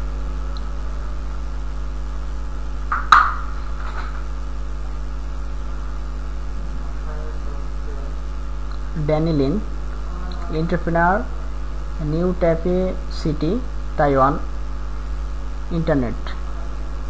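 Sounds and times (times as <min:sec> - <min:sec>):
electrical mains hum with hiss: 0:00.0 - 0:17.0.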